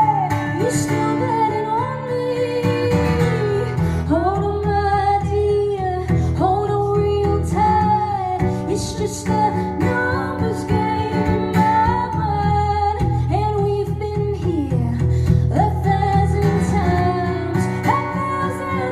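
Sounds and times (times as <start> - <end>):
strummed guitar: 0.0 - 18.9
woman singing: 0.0 - 18.9.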